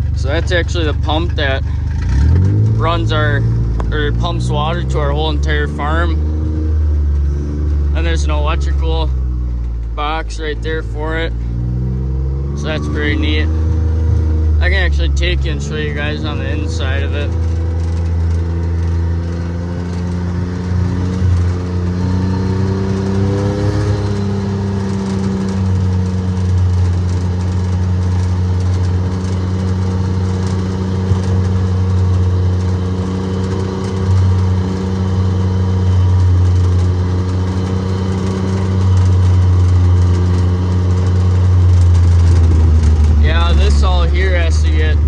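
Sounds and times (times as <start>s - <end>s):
vehicle engine driving: 0.0s - 45.0s.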